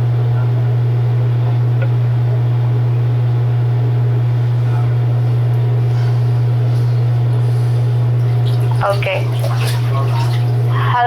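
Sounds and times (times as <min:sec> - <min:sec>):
low hum on telephone line: 0:00.0 - 0:11.0.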